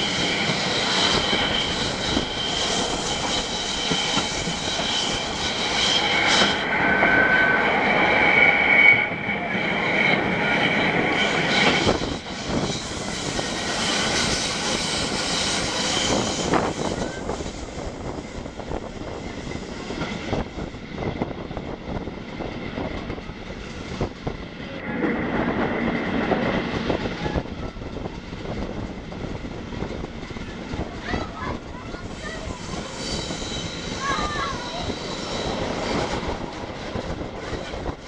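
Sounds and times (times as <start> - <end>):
train wheels rolling on rails: 0.0 - 7.9, 8.8 - 38.0.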